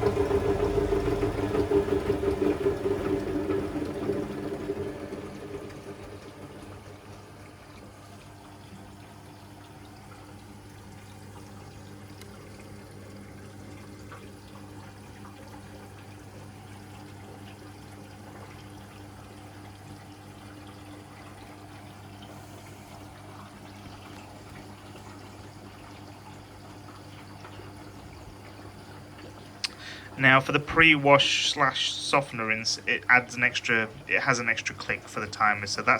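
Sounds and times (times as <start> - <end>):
washing machine hum: 0.0 - 35.9
water running into tub: 0.0 - 35.9.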